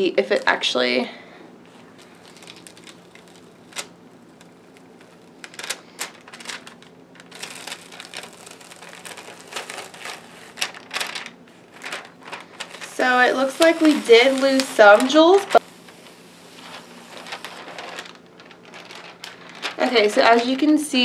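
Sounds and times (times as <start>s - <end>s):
plastic film peeling and crackling: 1.7s - 20.7s.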